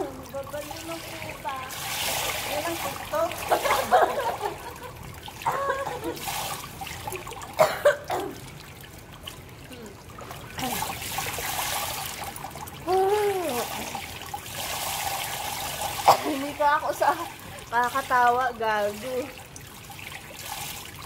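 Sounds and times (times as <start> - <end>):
water lapping and splashing: 0.0 - 21.0
water trickling: 0.0 - 21.0.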